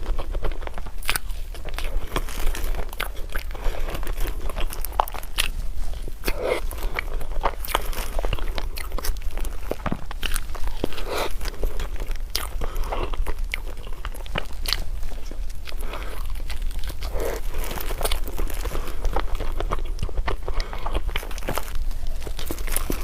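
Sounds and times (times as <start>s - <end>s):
chewing and crunching food: 0.0s - 23.0s
steady low hum: 0.0s - 23.0s.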